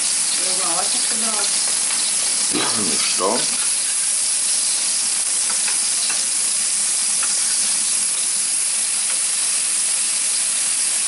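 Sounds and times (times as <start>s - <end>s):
fat sizzling on electric grill: 0.0s - 11.0s.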